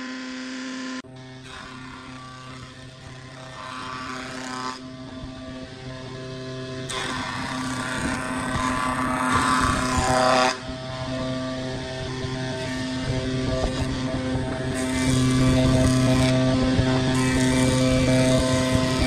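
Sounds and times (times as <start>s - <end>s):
jointer cutting board: 0.0s - 19.0s
jointer whining: 0.0s - 19.0s.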